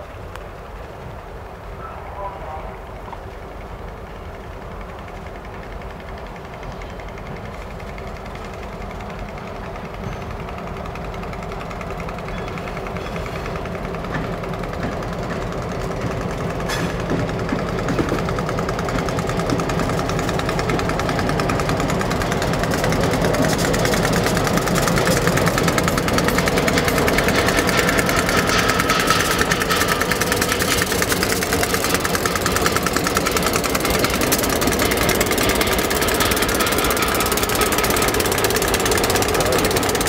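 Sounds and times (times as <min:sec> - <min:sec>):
diesel locomotive engines throbbing: 0:00.0 - 0:40.0.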